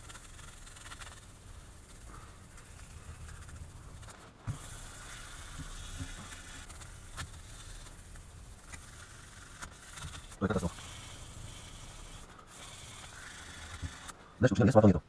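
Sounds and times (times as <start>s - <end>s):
sandpaper rubbing on metal: 0.0s - 14.2s.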